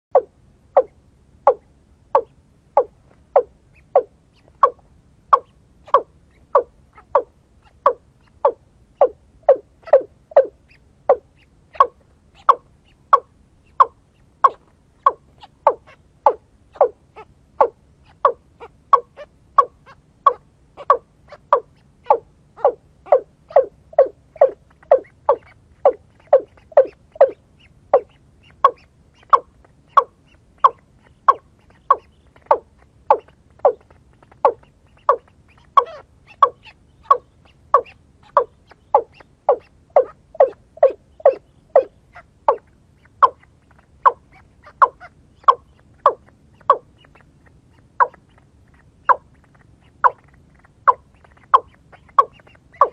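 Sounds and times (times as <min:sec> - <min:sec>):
waterhen calls: 0:00.1 - 0:52.9.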